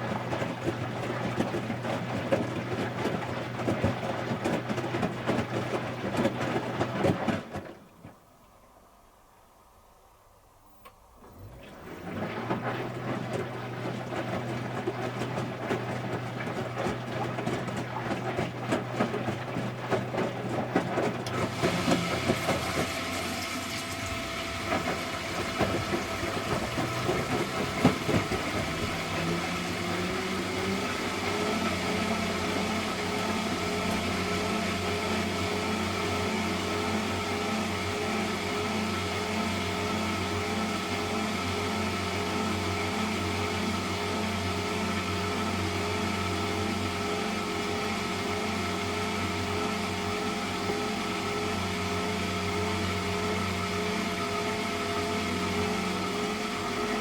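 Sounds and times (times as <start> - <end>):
water rushing: 0.0 - 8.1, 11.3 - 57.0
washing machine motor hum: 0.0 - 57.0.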